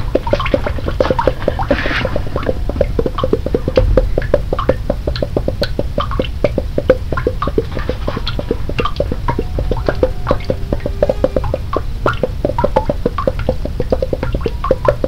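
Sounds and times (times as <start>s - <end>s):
high-pitched water plinks: 0.0s - 15.0s
water drops dripping: 0.0s - 15.0s.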